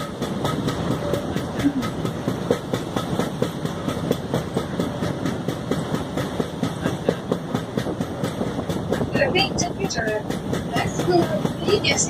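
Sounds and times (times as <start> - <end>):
train rumbling: 0.0 - 12.0
train wheels clattering: 0.0 - 12.0.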